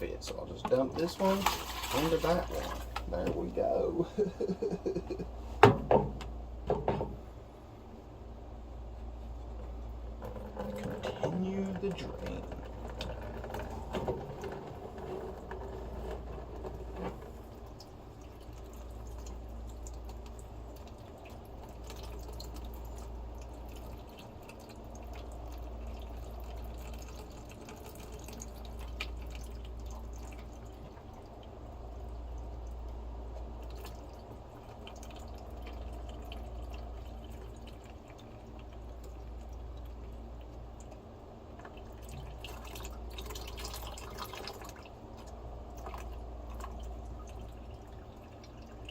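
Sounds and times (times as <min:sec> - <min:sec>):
water draining into bucket: 0:00.0 - 0:07.2, 0:09.3 - 0:48.9.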